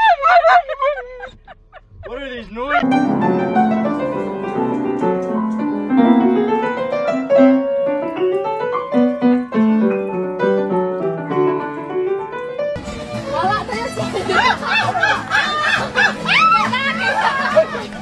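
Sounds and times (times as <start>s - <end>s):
upright piano melody: 2.5s - 18.0s.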